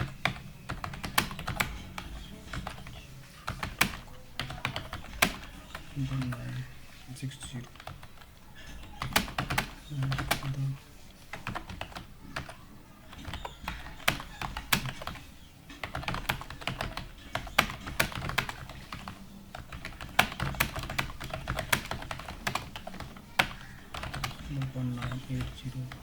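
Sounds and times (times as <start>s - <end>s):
fast typing on keyboard: 0.0s - 26.0s.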